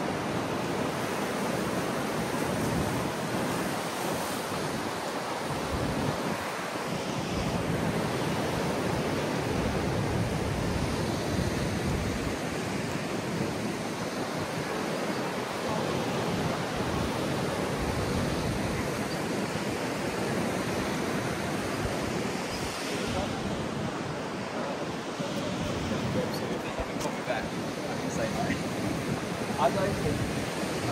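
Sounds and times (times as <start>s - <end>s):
ocean waves breaking: 0.0s - 30.9s
strong wind: 0.0s - 30.9s.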